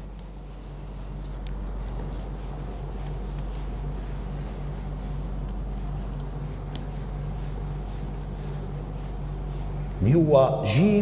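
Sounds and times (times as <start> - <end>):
eraser wiping whiteboard: 0.0 - 11.0
steady low hum: 0.0 - 11.0.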